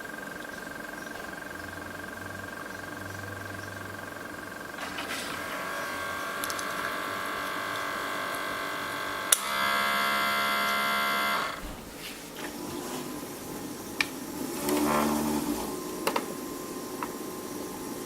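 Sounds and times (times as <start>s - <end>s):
loud buzz: 0.0s - 11.8s, 14.2s - 18.0s
coffee maker pump humming: 0.0s - 18.0s.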